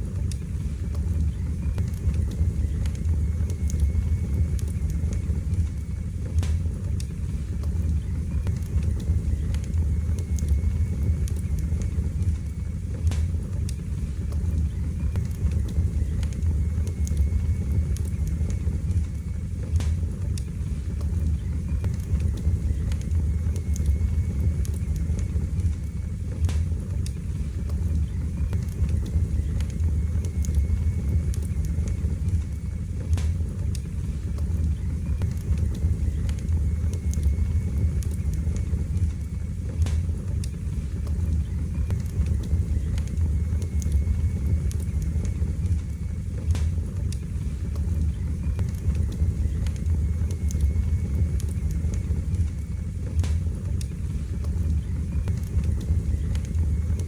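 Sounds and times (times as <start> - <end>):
fire roaring in fireplace: 0.0 - 57.0
wood crackling and popping: 0.0 - 57.0.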